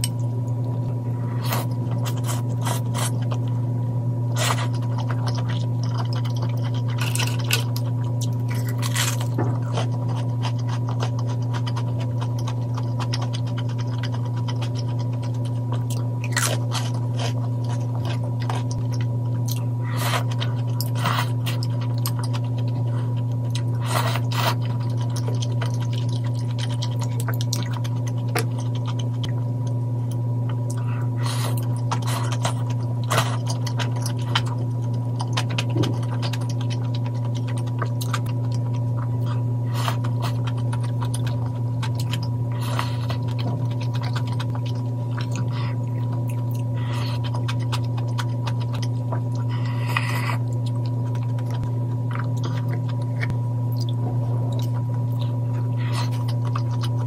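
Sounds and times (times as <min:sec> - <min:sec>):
steady low hum: 0:00.0 - 0:57.0
chewing and slurping: 0:01.2 - 0:03.5, 0:04.3 - 0:57.0.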